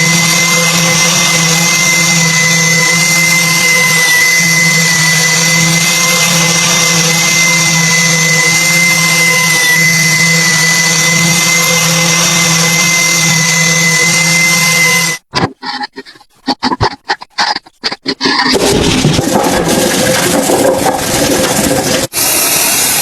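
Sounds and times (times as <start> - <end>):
power tool motor whining: 0.0 - 23.0.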